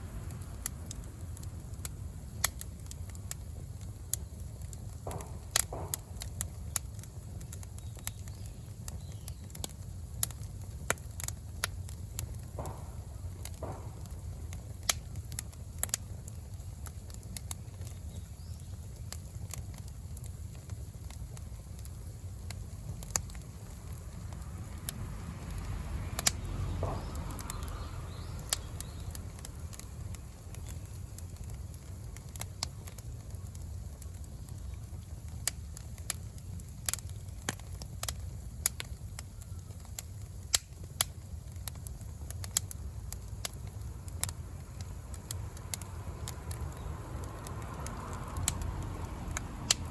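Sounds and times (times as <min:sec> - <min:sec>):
fire crackling and popping: 0:00.0 - 0:49.9
low rumble of flames: 0:00.0 - 0:49.9.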